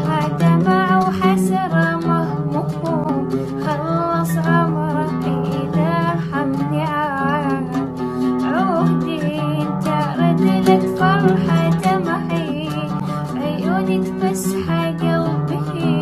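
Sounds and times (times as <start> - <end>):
plucked guitar: 0.0 - 16.0
woman singing sad song: 0.0 - 16.0.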